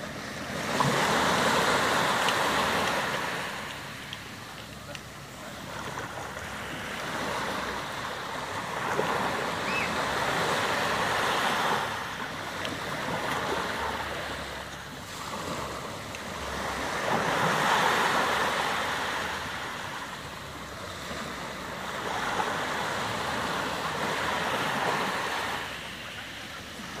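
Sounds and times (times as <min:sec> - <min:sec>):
small waves breaking on shore: 0:00.0 - 0:27.0.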